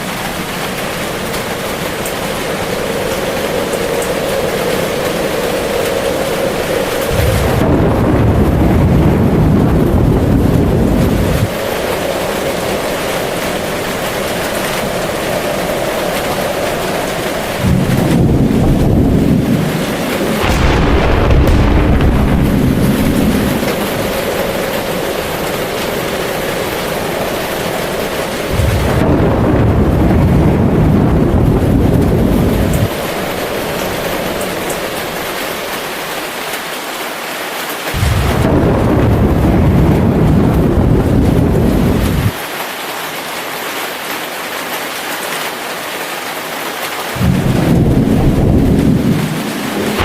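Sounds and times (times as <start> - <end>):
thunder rumbling: 0.0 - 36.0, 38.0 - 42.4, 47.2 - 50.0
steady rain: 0.0 - 50.0.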